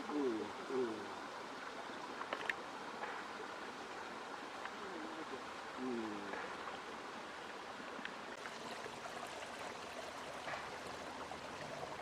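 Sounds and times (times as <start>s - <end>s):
stream water babbling: 0.0s - 12.0s.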